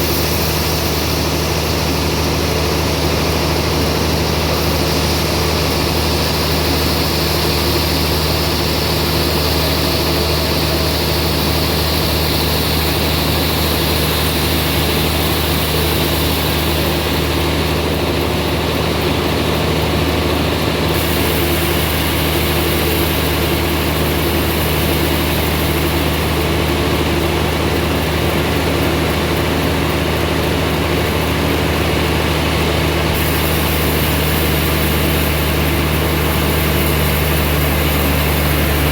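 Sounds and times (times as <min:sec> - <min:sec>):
sawmill machine hum: 0:00.0 - 0:38.9.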